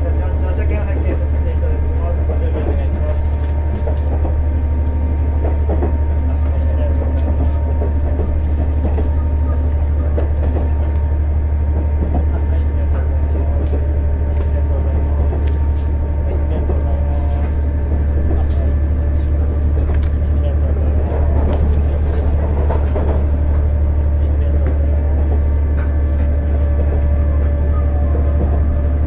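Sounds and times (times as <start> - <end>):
diesel railcar engine drone: 0.0 - 29.0
wheels clicking on rails: 0.0 - 29.0.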